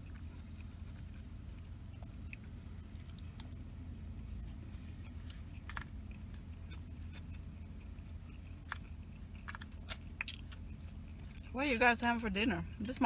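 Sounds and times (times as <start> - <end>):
close-up chewing: 0.0 - 11.6
steady low hum: 0.0 - 13.0.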